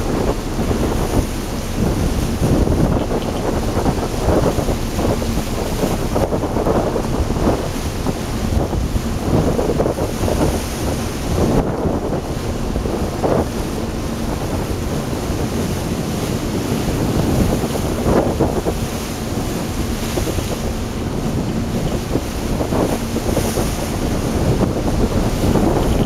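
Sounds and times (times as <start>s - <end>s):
rushing open water: 0.0s - 26.0s
wind buffeting microphone: 0.0s - 26.0s.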